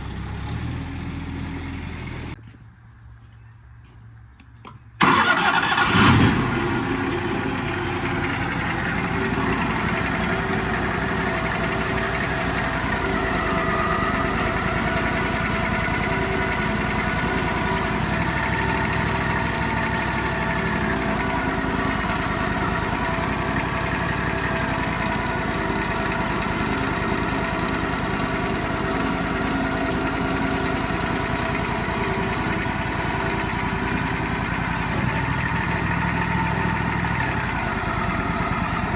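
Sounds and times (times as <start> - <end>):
engine running steadily: 0.0 - 2.6, 5.0 - 38.9.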